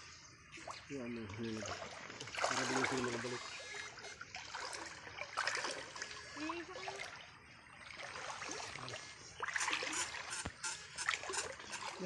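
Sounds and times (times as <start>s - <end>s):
water splashing around legs: 0.7s - 12.0s.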